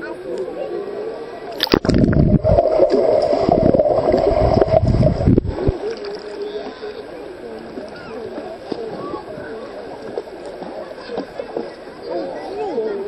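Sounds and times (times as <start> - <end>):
muffled underwater splashing: 1.2 - 12.0.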